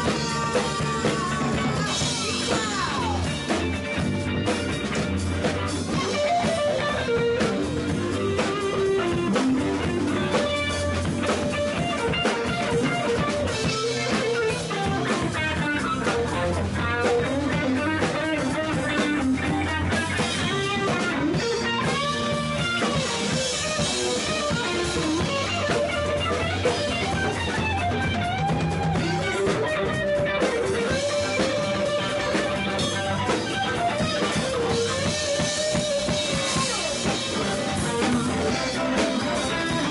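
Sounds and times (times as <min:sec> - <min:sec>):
bass guitar: 0:00.0 - 0:39.9
drum kit: 0:00.0 - 0:39.9
electric guitar lead line: 0:00.0 - 0:39.9.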